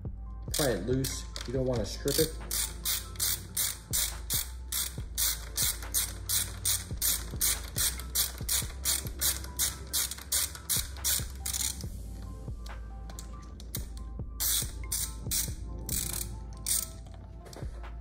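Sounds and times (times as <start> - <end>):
ratchet pawl clicks: 0.5 - 11.9, 12.6 - 17.2.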